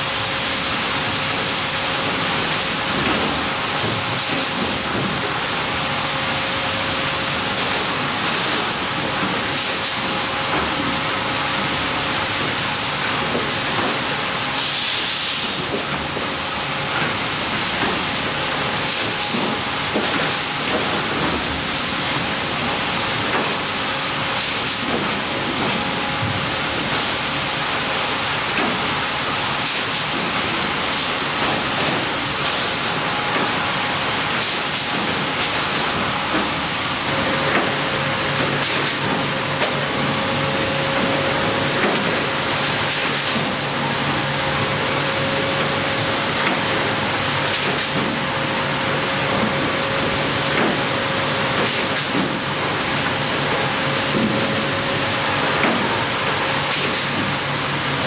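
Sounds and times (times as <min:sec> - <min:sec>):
loud hissing machinery din: 0:00.0 - 0:58.0
steady machine hum: 0:00.0 - 0:58.0.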